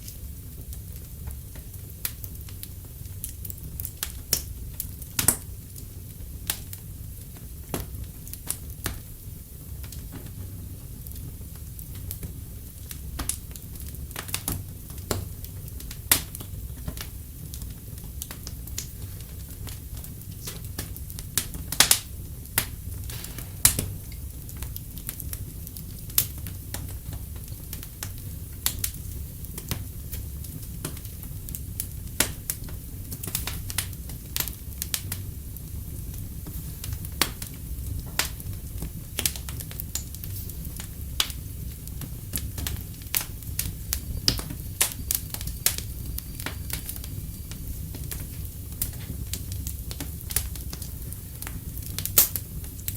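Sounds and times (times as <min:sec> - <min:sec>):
fireplace crackling: 0:00.0 - 0:52.9
low steady rumble: 0:00.0 - 0:52.9.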